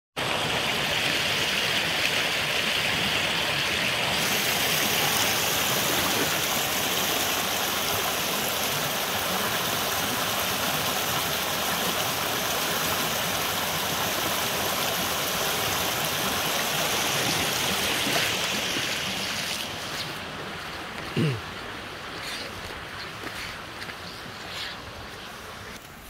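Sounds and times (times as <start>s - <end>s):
stream rushing over stones: 0.2s - 26.0s.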